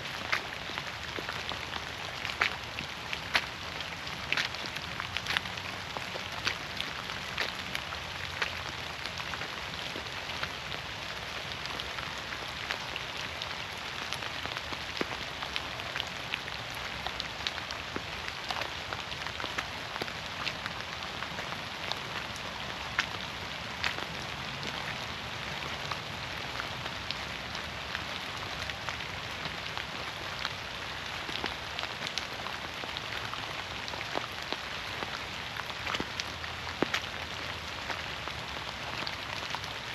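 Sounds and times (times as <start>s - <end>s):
rain falling in forest: 0.0s - 39.9s
raindrops striking close by: 0.0s - 39.9s.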